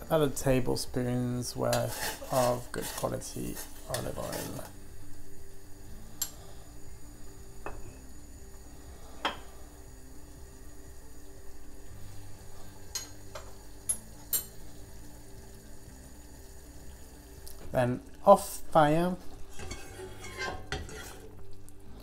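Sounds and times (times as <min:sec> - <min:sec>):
water bubbling at a rolling boil: 0:03.7 - 0:22.0.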